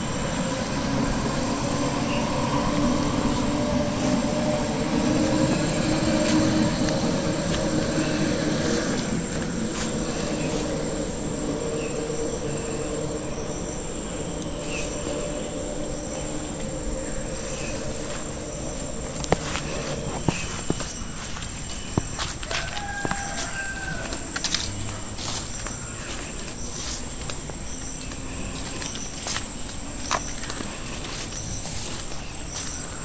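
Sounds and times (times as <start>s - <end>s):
distant engine droning: 0.0s - 33.0s.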